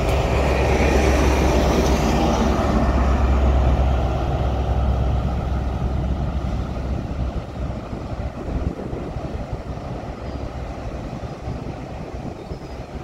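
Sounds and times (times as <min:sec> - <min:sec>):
diesel train engine rumble: 0:00.0 - 0:13.0
wheel and rail noise: 0:00.0 - 0:13.0.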